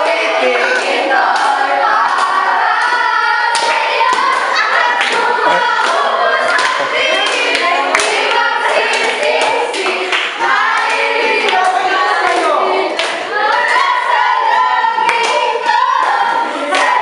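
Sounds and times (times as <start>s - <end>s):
group of people singing: 0.0s - 17.0s
hand claps: 0.7s - 13.8s, 15.0s - 17.0s.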